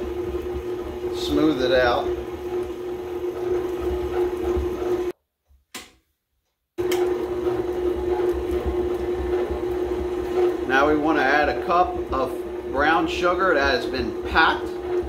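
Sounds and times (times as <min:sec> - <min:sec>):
stand mixer motor hum: 0:00.0 - 0:05.1, 0:06.8 - 0:15.0.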